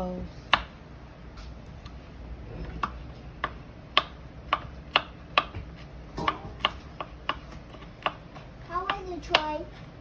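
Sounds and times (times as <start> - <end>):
knife chopping on cutting board: 0.5 - 0.8, 1.6 - 9.9.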